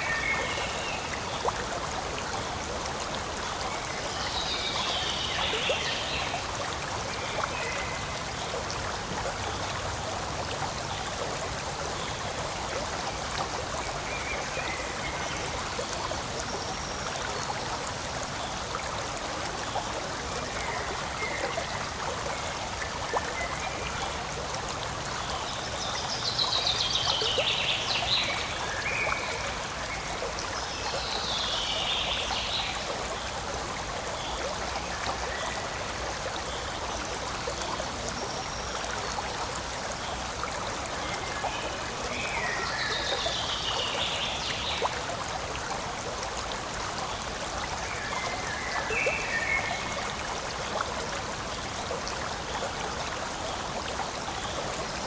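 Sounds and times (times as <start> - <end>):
stream gurgling over stones: 0.0 - 55.0.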